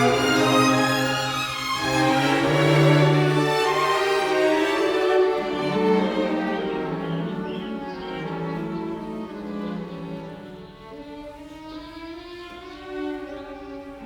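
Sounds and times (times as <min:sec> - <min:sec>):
bowed strings music: 0:00.0 - 0:14.0.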